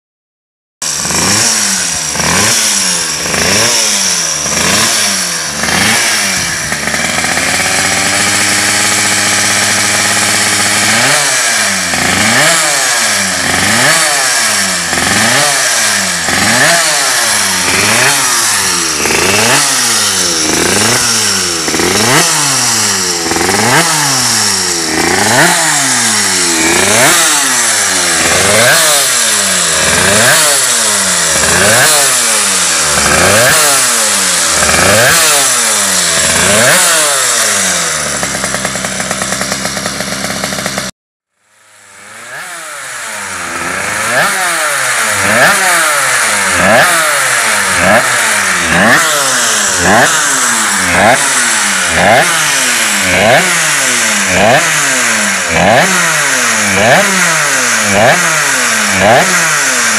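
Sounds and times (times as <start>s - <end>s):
motorcycle engine revving: 0.8s - 59.9s.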